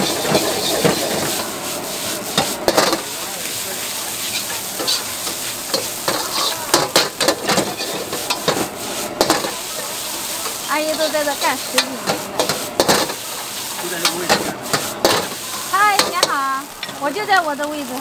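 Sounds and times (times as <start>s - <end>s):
metal ladle scraping a wok: 0.0s - 3.2s, 4.2s - 17.0s
food sizzling and frying: 0.0s - 18.0s.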